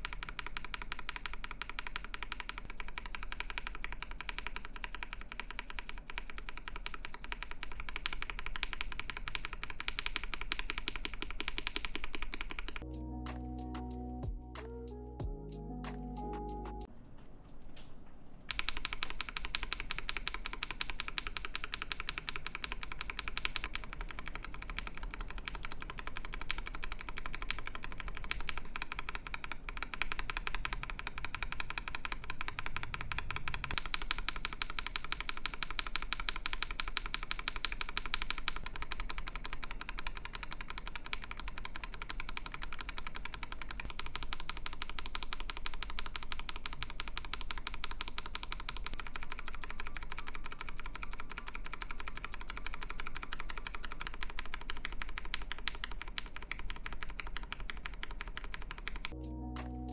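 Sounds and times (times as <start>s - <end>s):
fast mechanical keyboard typing: 0.0s - 12.9s, 18.5s - 59.2s.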